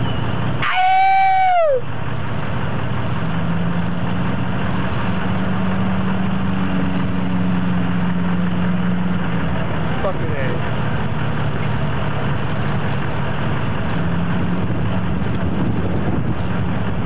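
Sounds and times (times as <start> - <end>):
constant rushing noise: 0.0 - 17.0
vehicle engine idling: 0.0 - 17.0.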